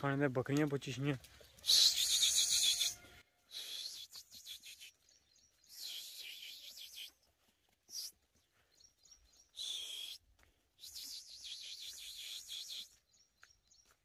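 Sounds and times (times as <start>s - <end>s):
faint birdsong and chirping: 0.0s - 14.0s.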